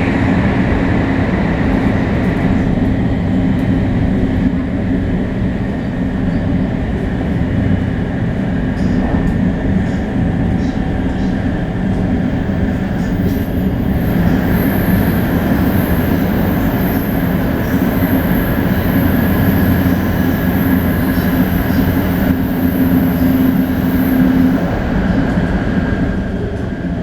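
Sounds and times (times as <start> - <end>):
train motor hum: 0.0 - 27.0
train wheels rumbling on rail: 0.0 - 27.0.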